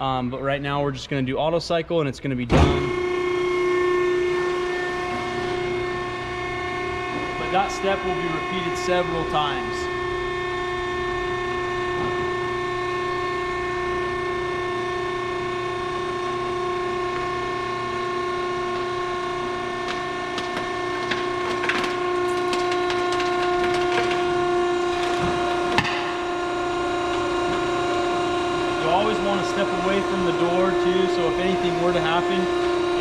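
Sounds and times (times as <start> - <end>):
hydraulic pump motor whine: 2.5 - 33.0.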